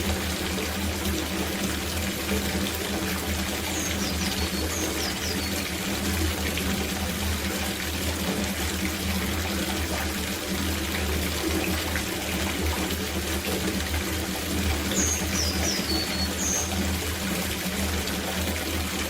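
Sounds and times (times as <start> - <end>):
water pouring into bathtub: 0.0 - 19.0.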